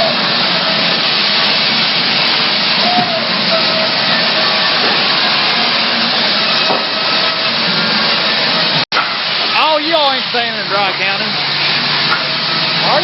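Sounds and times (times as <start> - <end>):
sawmill machinery rushing: 0.0 - 13.0.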